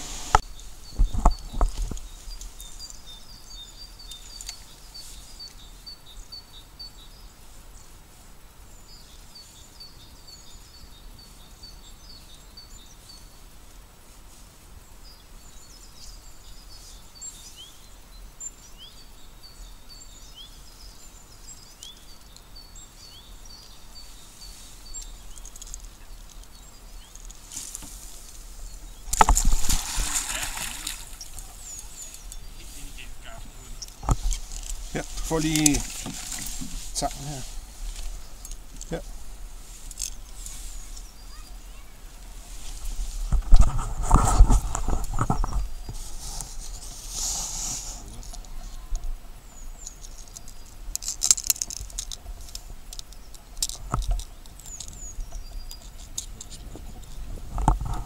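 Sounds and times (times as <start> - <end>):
outdoor background noise: 0.0 - 58.0
small birds singing: 0.0 - 58.0.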